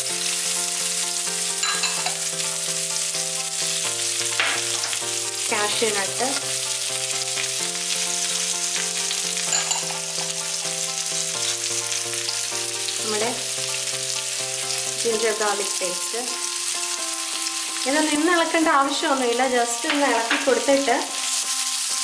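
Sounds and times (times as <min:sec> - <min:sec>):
background music of held notes: 0:00.0 - 0:22.0
food sizzling in hot oil: 0:00.0 - 0:22.0.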